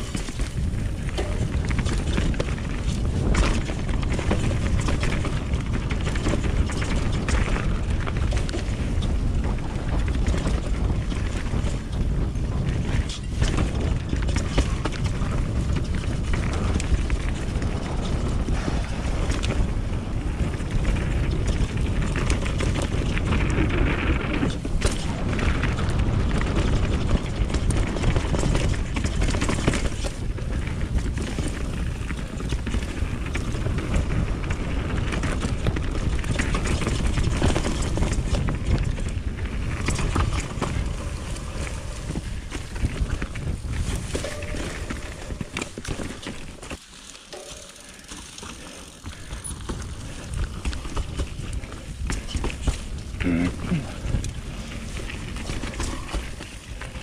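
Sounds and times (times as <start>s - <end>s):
bike chain and frame rattling: 0.0s - 57.0s
bike tyres rushing on dirt: 0.0s - 57.0s.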